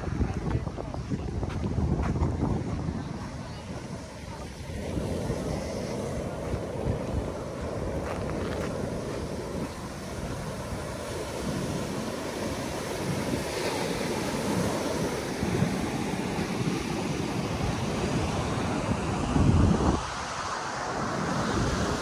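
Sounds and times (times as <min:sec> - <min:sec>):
surf breaking on a beach: 0:00.0 - 0:22.0
wind buffeting the microphone: 0:00.0 - 0:22.0.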